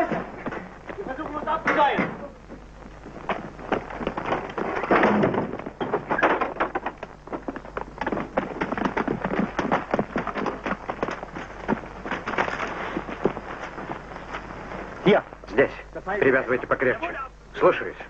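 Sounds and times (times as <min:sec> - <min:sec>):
running footsteps on rough ground: 0:00.0 - 0:17.0.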